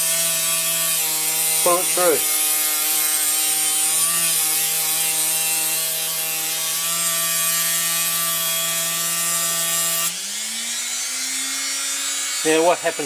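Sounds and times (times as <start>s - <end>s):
rotary tool motor whine: 0.0s - 13.0s.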